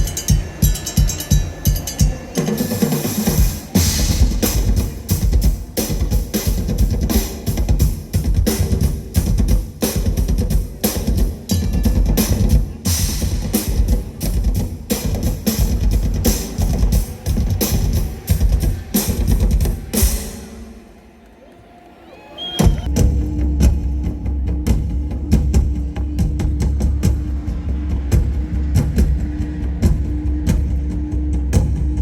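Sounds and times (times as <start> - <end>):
music with drum beat: 0.0 - 20.8, 22.6 - 32.0.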